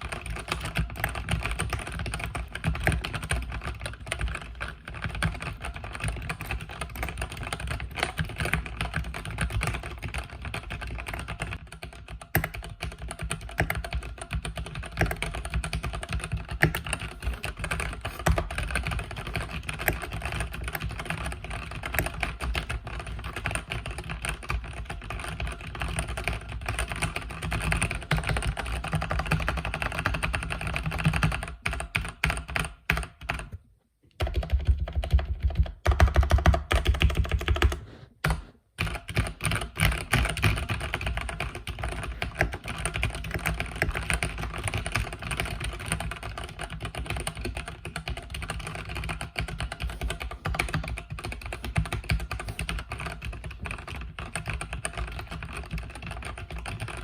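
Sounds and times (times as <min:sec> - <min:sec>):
mechanical keyboard typing: 0:00.0 - 0:33.6, 0:34.2 - 0:57.0.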